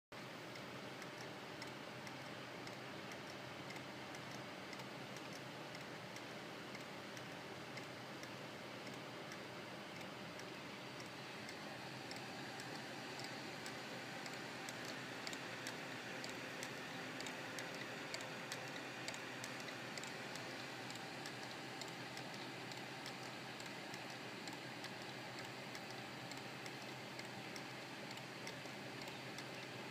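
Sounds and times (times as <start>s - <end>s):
mechanism ticking and clicking: 0.2s - 29.9s.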